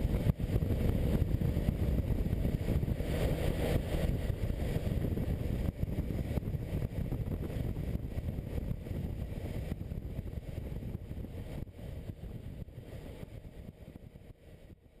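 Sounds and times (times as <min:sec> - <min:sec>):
road noise: 0:00.0 - 0:14.7
muffled motorcycle engine: 0:00.0 - 0:15.0
wind buffeting microphone: 0:00.0 - 0:15.0.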